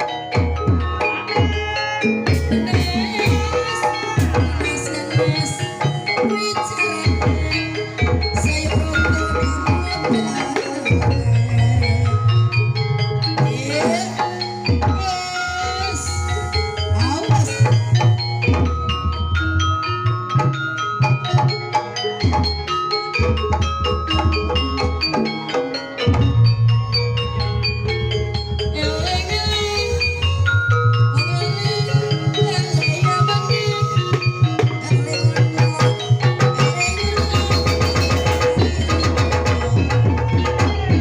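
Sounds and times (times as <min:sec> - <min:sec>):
metal mallet instruments ringing: 0:00.0 - 0:41.0
sliding melodic notes: 0:00.0 - 0:41.0.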